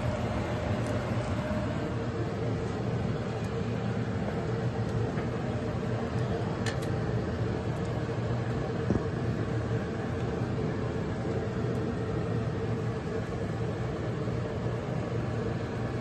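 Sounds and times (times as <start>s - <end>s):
low rumbling machine hum: 0.0s - 16.0s.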